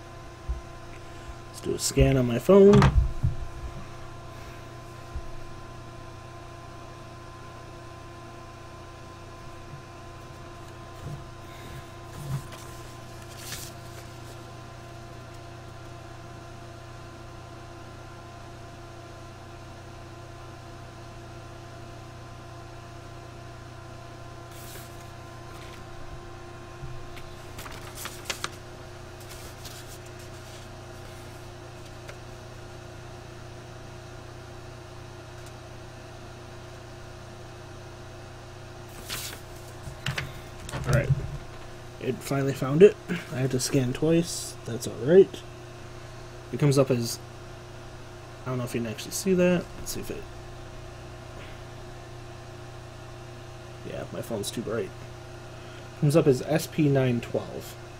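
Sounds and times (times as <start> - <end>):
steady electrical hum: 0.0 - 57.9.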